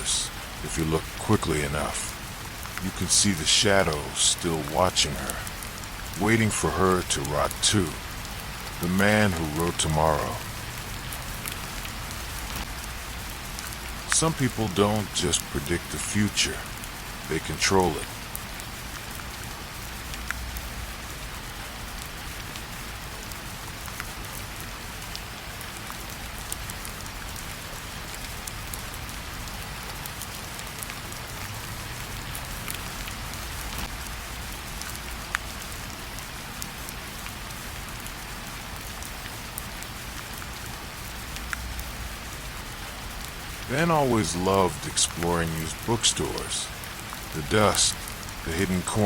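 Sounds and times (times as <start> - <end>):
rain pattering on a surface: 0.0 - 49.0.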